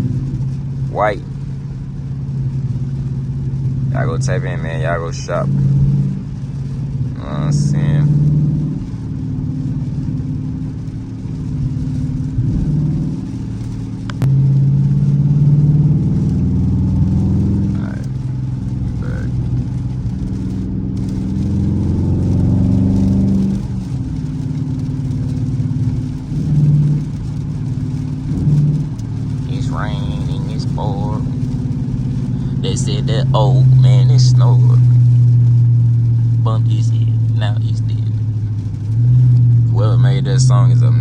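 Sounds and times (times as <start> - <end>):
car engine accelerating: 0.0 - 41.0
road noise: 0.0 - 41.0.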